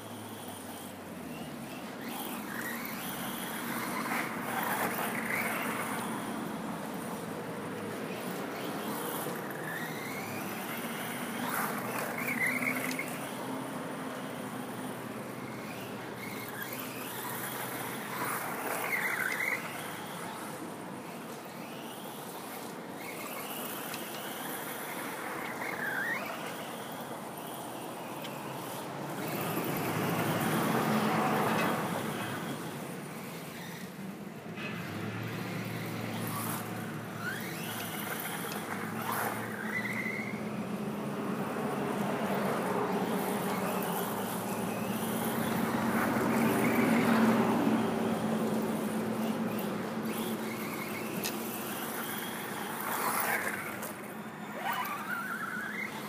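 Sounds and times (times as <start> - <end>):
electric motor whining: 0.0 - 34.0, 34.8 - 56.0
drivetrain and tyre noise: 0.0 - 56.0.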